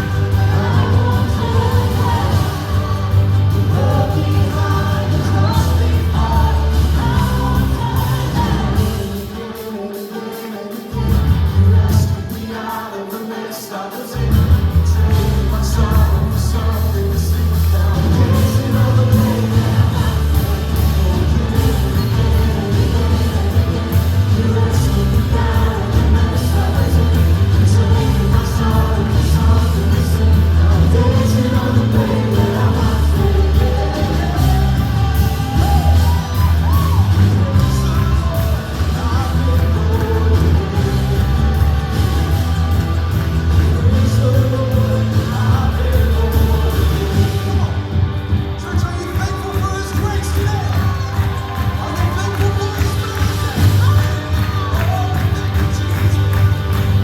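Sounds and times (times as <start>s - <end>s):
sustained bass notes: 0.0s - 9.2s, 11.0s - 12.2s, 14.2s - 57.0s
drum beat: 0.0s - 12.9s, 14.3s - 57.0s
band playing gospel-pop: 0.0s - 57.0s
people singing: 0.0s - 57.0s.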